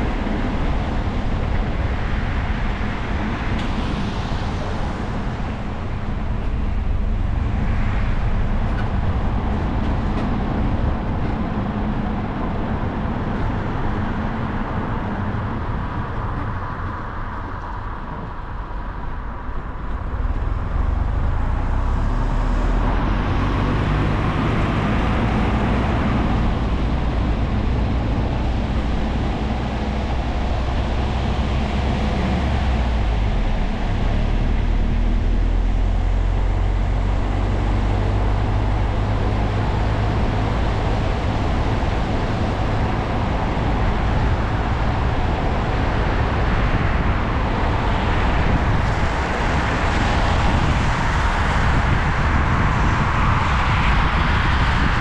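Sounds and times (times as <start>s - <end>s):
car engine drone: 0.0s - 55.0s
tyre noise on wet road: 0.0s - 55.0s.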